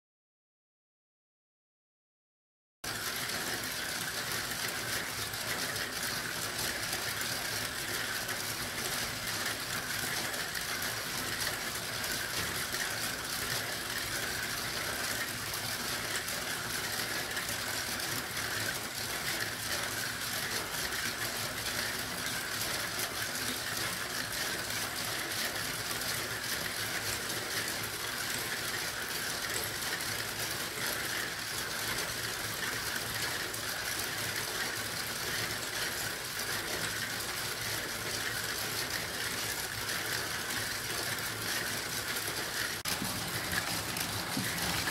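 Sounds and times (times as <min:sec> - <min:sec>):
marbles rattling on plastic run: 0:02.9 - 0:44.9.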